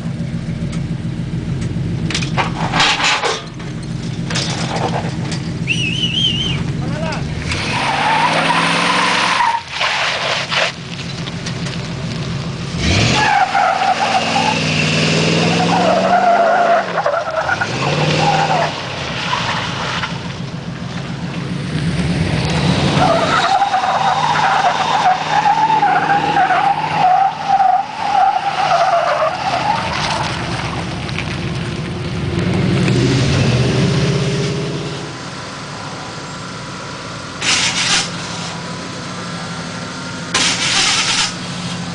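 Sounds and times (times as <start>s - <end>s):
car engine revving: 4.0s - 41.9s.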